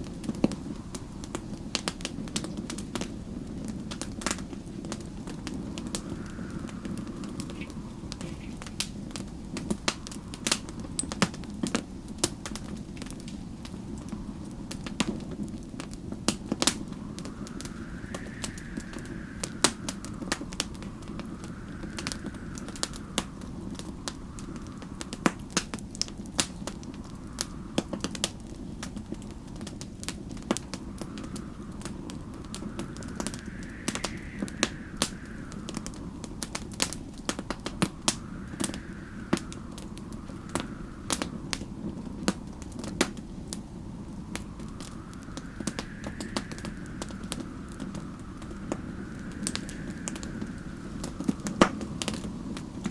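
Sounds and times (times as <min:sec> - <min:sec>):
howling wind gusts: 0:00.0 - 0:52.9
wood fire crackling and popping: 0:00.0 - 0:52.9.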